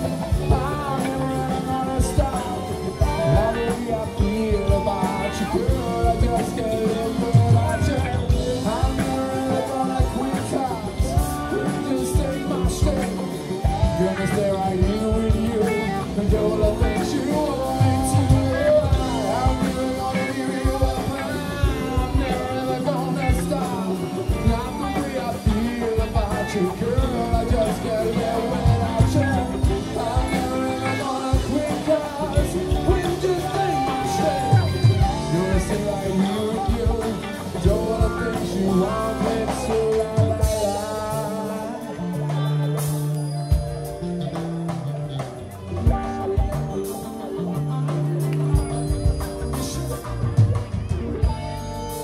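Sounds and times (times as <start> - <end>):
drum kit beating: 0.0 - 52.0
funk band playing: 0.0 - 52.0
man singing: 0.0 - 52.0
wavering lead melody: 0.0 - 52.0.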